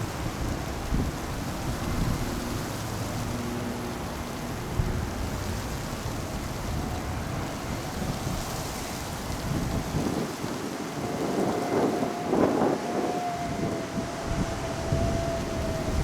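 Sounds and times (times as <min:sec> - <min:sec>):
strong gusty wind on microphone: 0:00.0 - 0:16.0.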